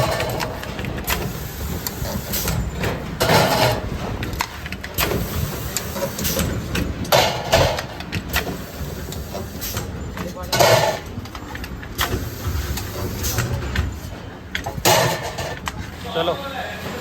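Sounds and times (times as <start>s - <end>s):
metal clanks and knocks: 0.0s - 5.3s, 6.1s - 8.6s, 9.3s - 16.1s
machinery humming: 0.0s - 17.0s.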